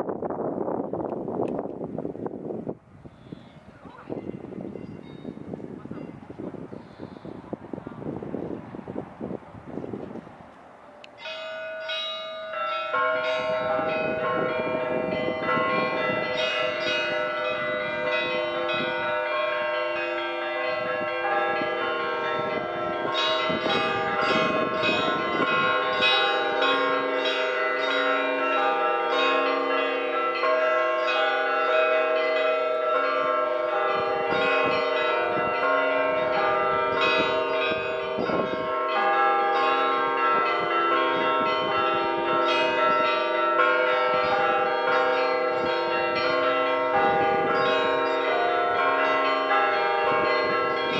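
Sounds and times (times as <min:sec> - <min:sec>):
church bells ringing in a peal: 0:03.8 - 0:08.2, 0:11.2 - 0:50.9.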